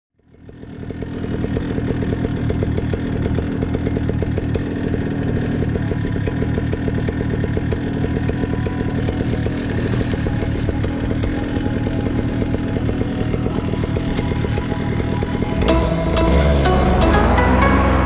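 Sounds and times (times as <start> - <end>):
paramotor engine running: 0.2 - 18.0.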